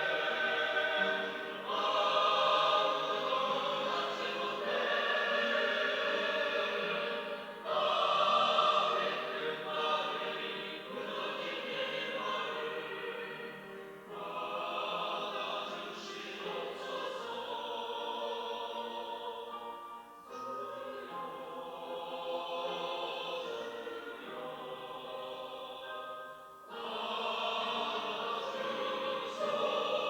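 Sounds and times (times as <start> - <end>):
church choir singing: 0.0 - 30.0.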